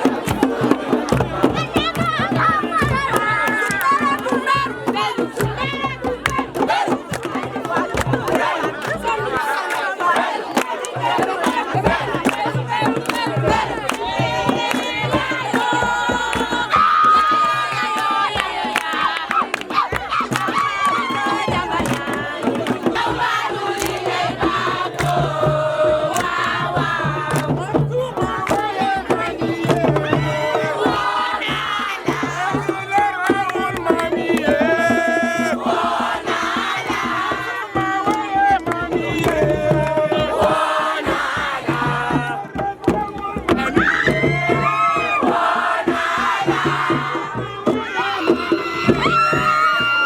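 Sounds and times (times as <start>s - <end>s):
sharp percussive hits: 0.0s - 44.4s
crowd singing and chanting: 0.0s - 50.0s.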